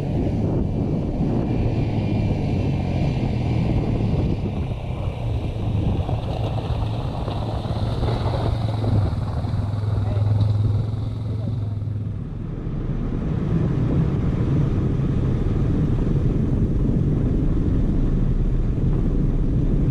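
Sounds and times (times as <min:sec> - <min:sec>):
quad bike engine: 0:00.0 - 0:19.9
wind on microphone: 0:00.0 - 0:19.9.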